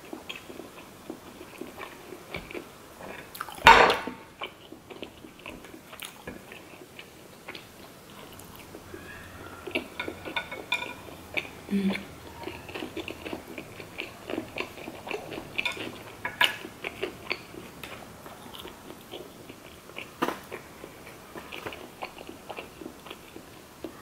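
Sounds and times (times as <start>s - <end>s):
person chewing with wet clicks: 0.0s - 24.0s.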